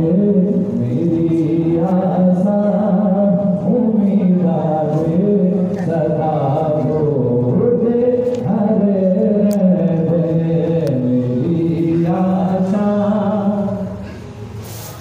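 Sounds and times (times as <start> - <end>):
person chanting melodically: 0.0 - 14.5.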